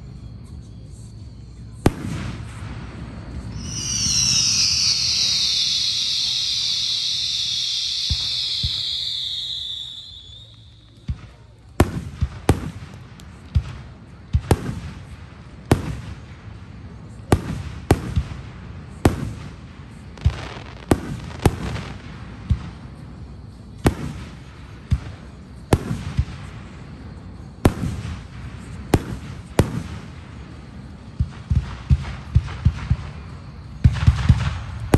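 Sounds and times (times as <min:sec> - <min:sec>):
fireworks booming and crackling: 0:00.0 - 0:34.9.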